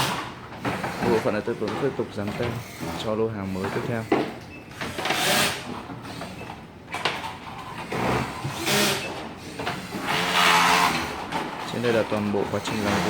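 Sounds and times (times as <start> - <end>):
rustling and scraping of products: 0.0 - 13.0.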